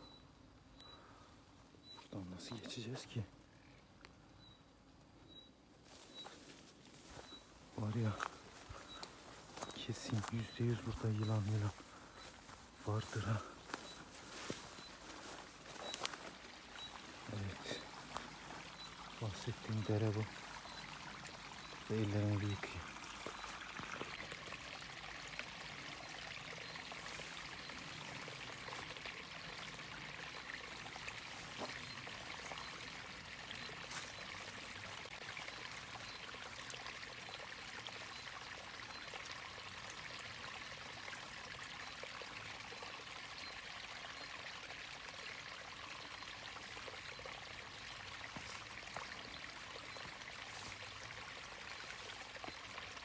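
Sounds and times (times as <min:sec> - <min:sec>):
creek flowing and trickling: 0:05.9 - 0:53.0.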